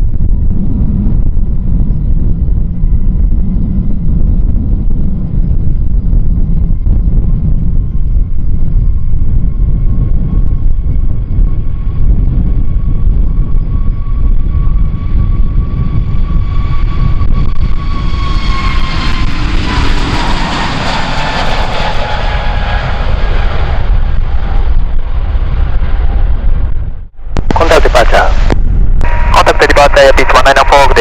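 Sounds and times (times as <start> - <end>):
jet airliner taking off: 0.0 - 31.0
wind buffeting microphone: 0.0 - 31.0.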